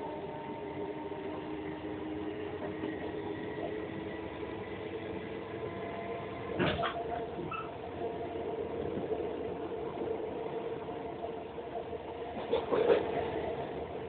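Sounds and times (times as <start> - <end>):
steady humming tones: 0.0 - 14.0
train carriage rumble: 0.0 - 14.0.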